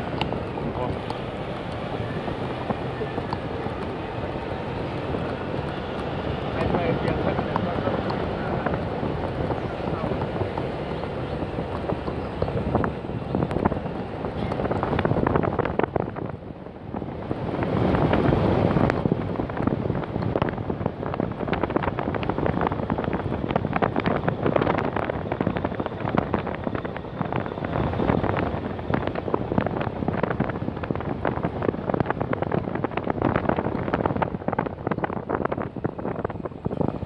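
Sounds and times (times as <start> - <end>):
vehicle driving: 0.0 - 37.0
wind buffeting the microphone: 0.0 - 37.0.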